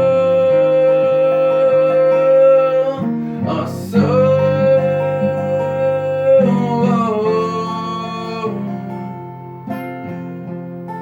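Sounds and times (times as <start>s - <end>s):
person singing: 0.0s - 9.3s
acoustic guitar chords: 0.0s - 11.0s.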